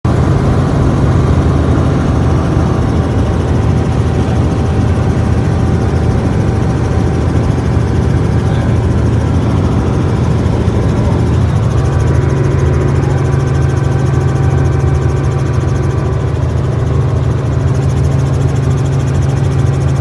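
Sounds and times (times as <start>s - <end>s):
helicopter rumbling: 0.0s - 20.0s.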